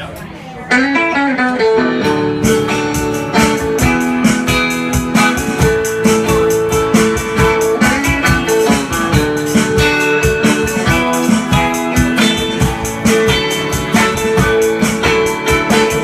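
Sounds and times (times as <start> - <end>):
drums with steady beat: 0.0 - 16.0
rock band playing: 0.0 - 16.0
electric guitar: 0.2 - 16.0.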